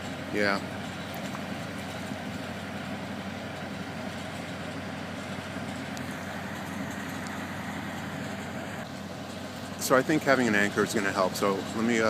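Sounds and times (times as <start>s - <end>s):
crane engine humming: 0.0s - 12.0s.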